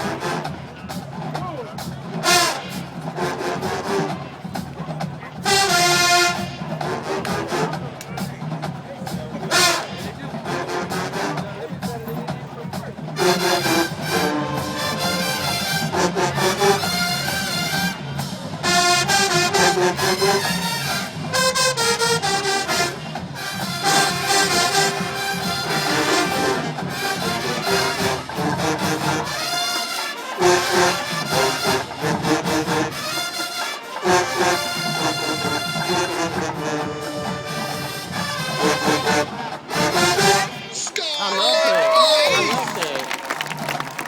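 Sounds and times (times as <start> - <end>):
marching band playing: 0.0 - 44.0.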